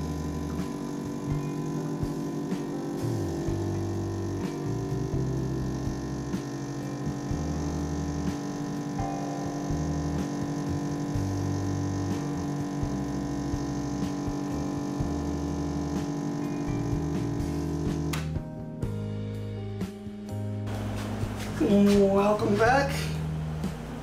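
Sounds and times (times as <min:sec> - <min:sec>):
espresso machine pump humming: 0:00.0 - 0:18.4, 0:20.7 - 0:24.0.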